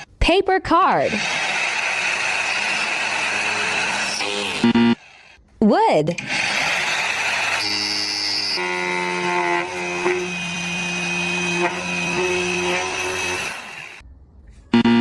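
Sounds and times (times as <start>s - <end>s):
power tool cutting wood: 1.0s - 5.4s, 6.2s - 14.0s.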